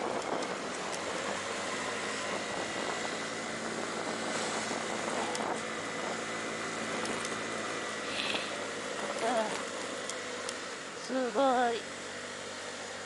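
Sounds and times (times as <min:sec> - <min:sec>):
moped engine running: 0:00.0 - 0:13.0
road and wind noise: 0:00.0 - 0:13.0.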